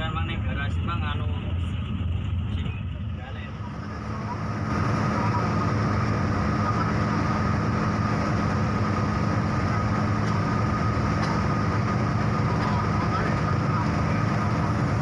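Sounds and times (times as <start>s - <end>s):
bus engine with road noise: 0.0s - 15.0s
steady high whine: 0.0s - 15.0s.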